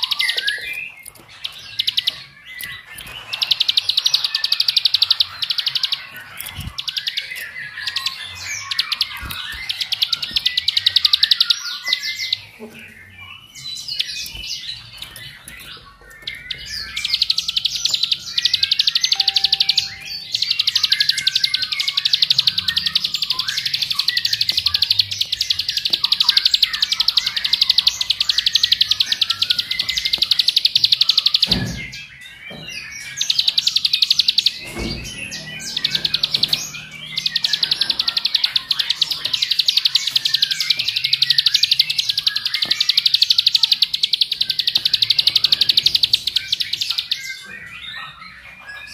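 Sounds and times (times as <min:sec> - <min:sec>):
bird singing rapid high trill: 0:00.0 - 0:48.9.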